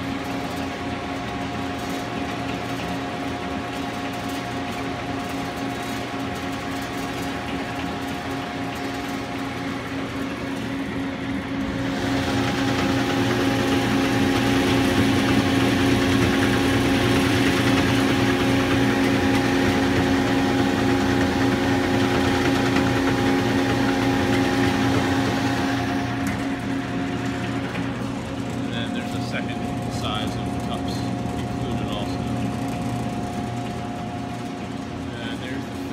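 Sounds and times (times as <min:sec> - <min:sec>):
dispenser motor humming: 0:00.0 - 0:35.9.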